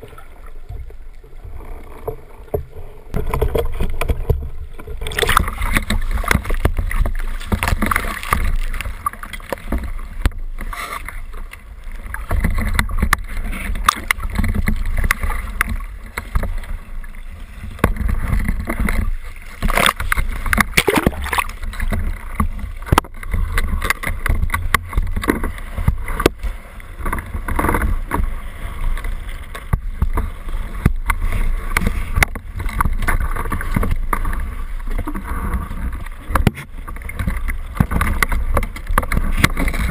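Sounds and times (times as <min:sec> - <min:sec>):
seawater splashing and sloshing: 0:00.0 - 0:39.9.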